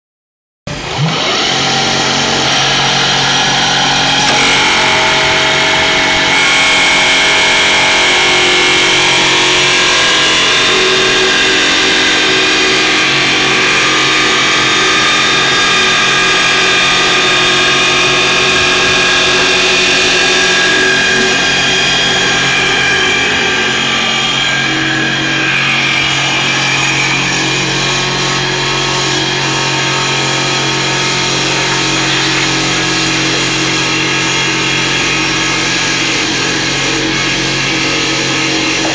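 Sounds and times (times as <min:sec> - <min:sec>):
whining tones: 0:00.7 - 0:38.9
wood lathe machine hum: 0:00.7 - 0:38.9.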